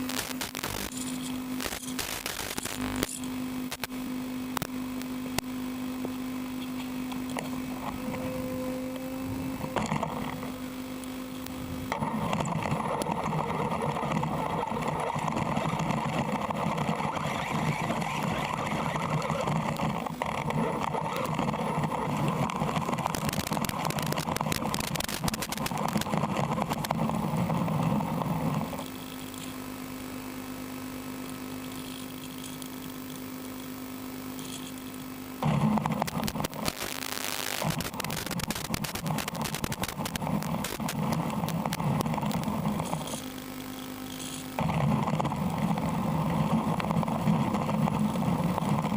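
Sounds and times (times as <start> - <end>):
rc car motor running: 0.7 - 3.9, 4.5 - 36.8, 37.5 - 48.9.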